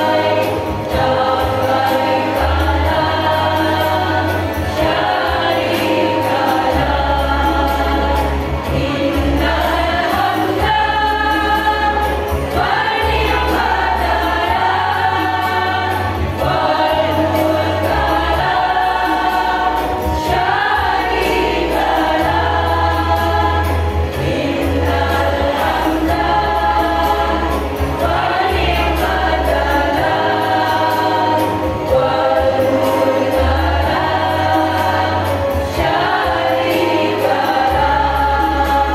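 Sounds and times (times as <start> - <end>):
women's choir singing: 0.0 - 38.9.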